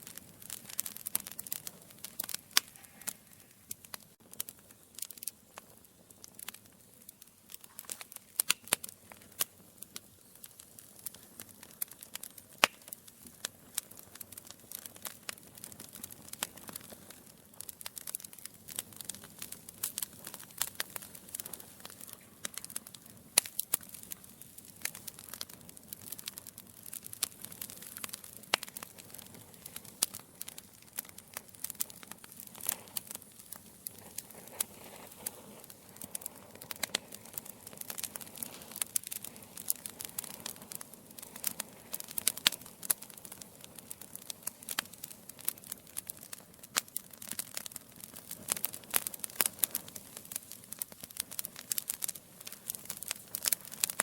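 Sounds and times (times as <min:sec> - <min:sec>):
logs crackling and popping: 0:00.0 - 0:54.0
soft fire hiss: 0:00.0 - 0:54.0.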